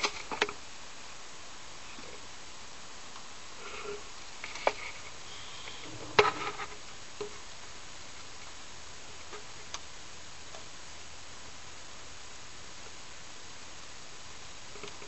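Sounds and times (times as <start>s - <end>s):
steady hiss: 0.1s - 15.0s.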